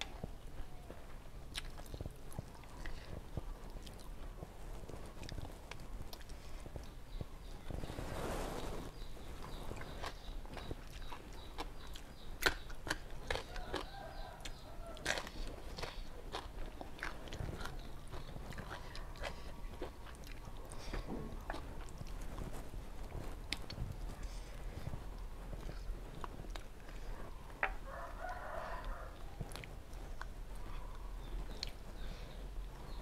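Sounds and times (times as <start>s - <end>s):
person chewing food: 0.0s - 7.3s, 8.9s - 33.0s.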